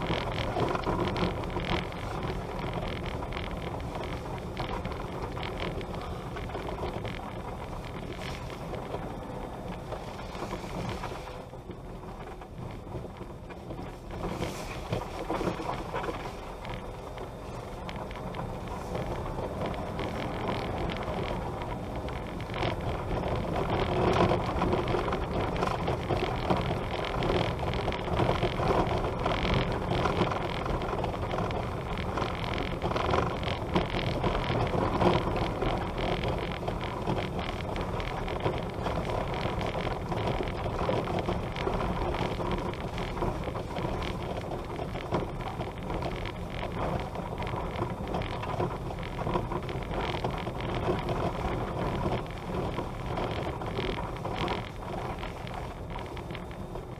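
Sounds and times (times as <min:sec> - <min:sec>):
gravel crunches and rattles: 0:00.0 - 0:56.9
tyres on gravel road: 0:00.0 - 0:56.9.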